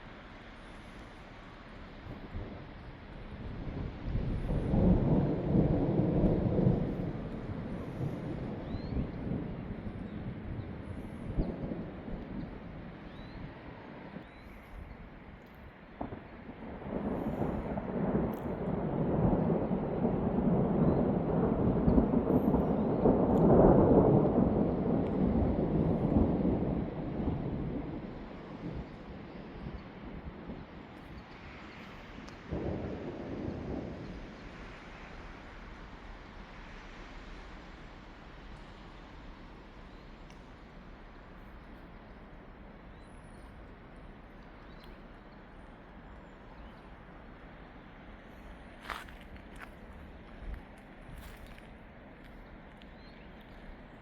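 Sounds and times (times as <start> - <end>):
low outdoor background hum: 0.0 - 54.0.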